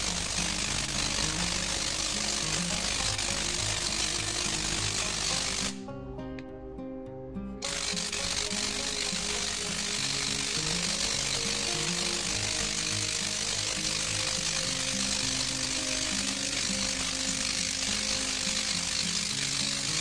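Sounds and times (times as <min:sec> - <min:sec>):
tesla coil crackling buzz: 0:00.0 - 0:05.9, 0:07.6 - 0:20.0
background music with low melody: 0:00.0 - 0:20.0.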